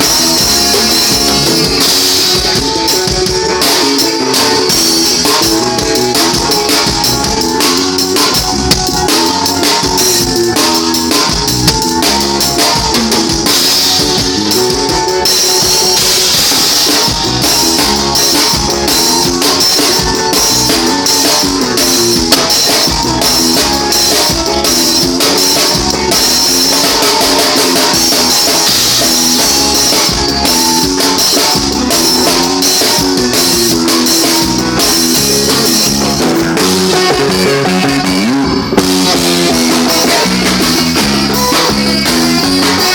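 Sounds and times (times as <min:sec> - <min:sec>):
drum kit beat: 0:00.0 - 0:42.9
guitar: 0:00.0 - 0:42.9.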